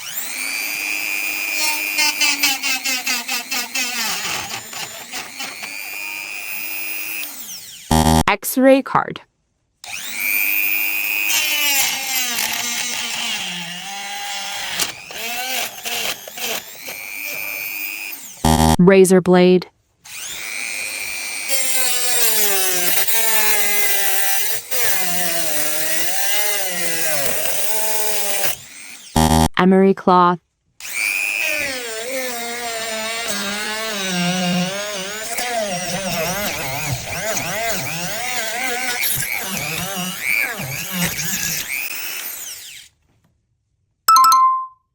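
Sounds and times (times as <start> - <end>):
electric grinder motor whine: 0.0 - 8.2, 9.8 - 18.7, 20.1 - 29.5, 30.8 - 42.9.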